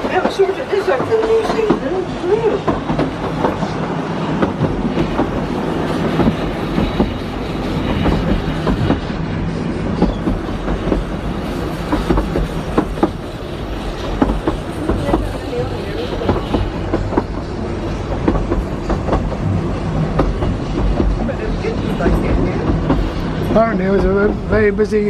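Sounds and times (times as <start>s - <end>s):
train coach rumble: 0.0s - 25.0s
wheels clicking on rails: 0.0s - 25.0s.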